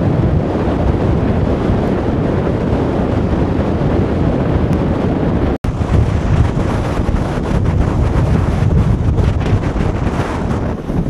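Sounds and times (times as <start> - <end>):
loud wind noise: 0.0 - 11.0.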